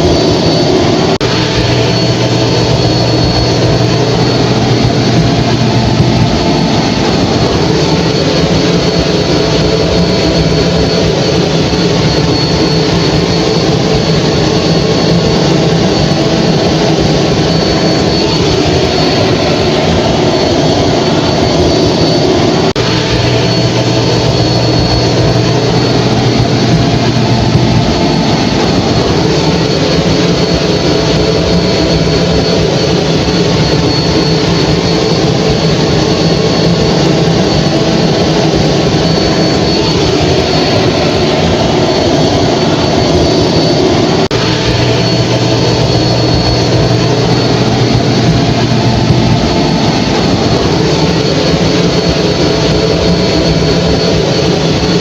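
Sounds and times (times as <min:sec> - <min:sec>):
deeper hum: 0:00.0 - 0:55.0.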